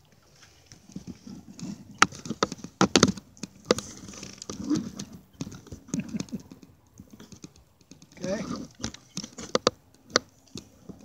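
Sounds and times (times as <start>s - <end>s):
paddle and gear knocking in kayak: 0.6s - 11.0s.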